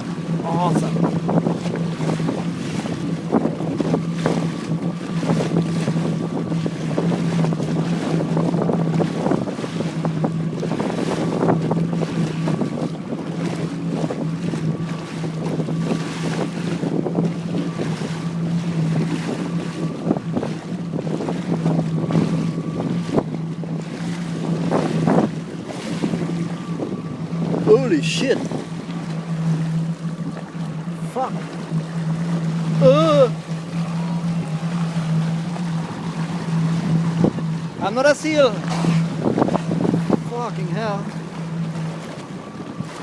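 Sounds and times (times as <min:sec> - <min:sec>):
jet ski engine idling: 0:00.0 - 0:43.0
water splashing: 0:00.0 - 0:43.0
wind buffeting microphone: 0:00.0 - 0:43.0.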